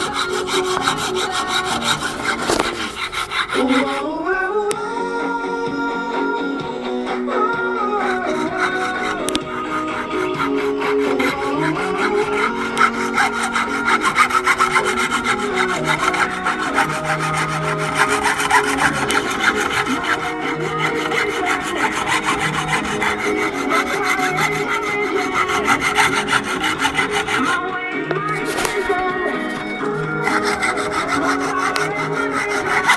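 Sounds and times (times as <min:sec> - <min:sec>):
hand saw cutting bone: 0:00.0 - 0:04.2, 0:07.4 - 0:32.9.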